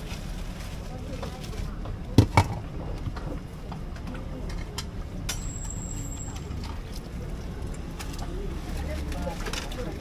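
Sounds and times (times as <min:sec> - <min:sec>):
traffic rumble: 0:00.0 - 0:10.0.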